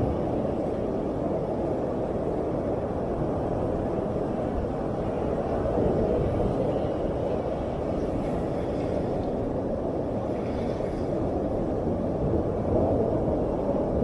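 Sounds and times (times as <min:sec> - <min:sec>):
ocean waves breaking: 0:00.0 - 0:13.6.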